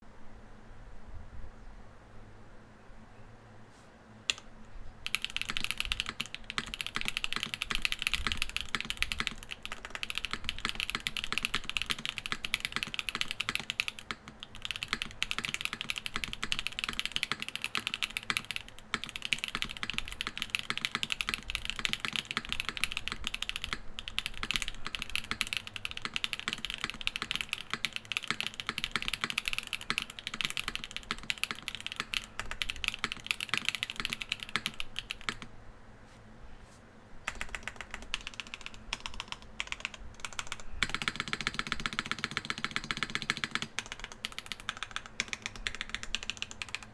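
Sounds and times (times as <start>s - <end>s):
mechanical keyboard key clacks: 5.0s - 35.5s, 37.3s - 46.9s.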